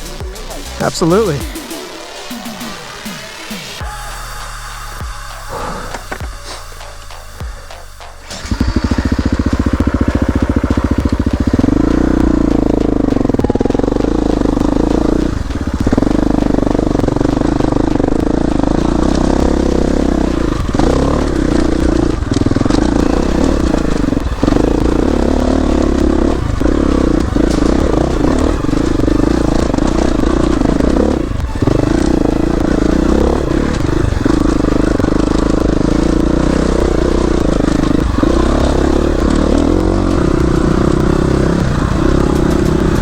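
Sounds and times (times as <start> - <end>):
dirt bike engine: 0.0 - 43.0.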